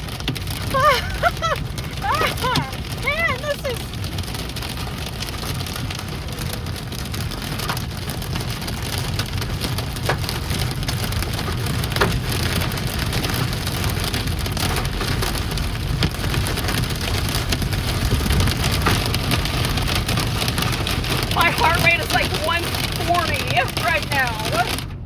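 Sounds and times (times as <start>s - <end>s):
hail and rain on car roof: 0.0s - 25.0s
hailstones striking: 0.0s - 25.0s
vehicle rumble: 0.0s - 25.0s.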